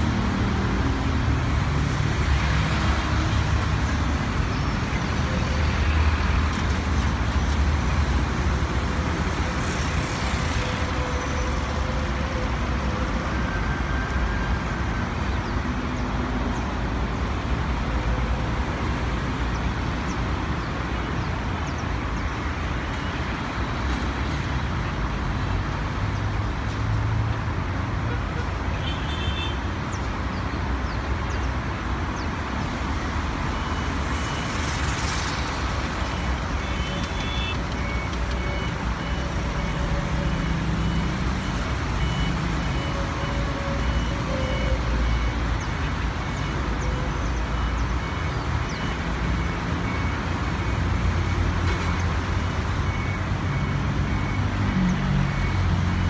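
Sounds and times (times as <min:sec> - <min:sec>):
low rumble of vehicles and engines: 0:00.0 - 0:56.0.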